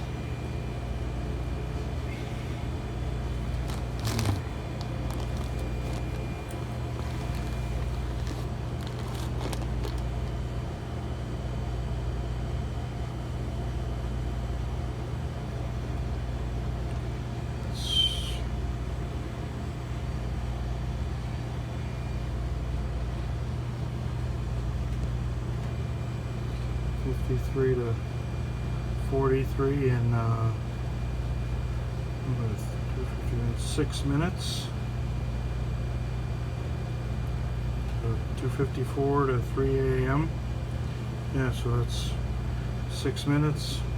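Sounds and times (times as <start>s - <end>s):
refrigerator compressor humming: 0.0s - 43.9s.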